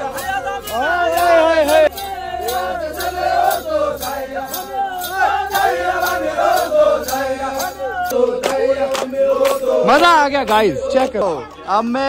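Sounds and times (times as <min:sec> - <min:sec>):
sharp beat: 0:00.0 - 0:11.1
group singing and chanting: 0:00.0 - 0:12.0.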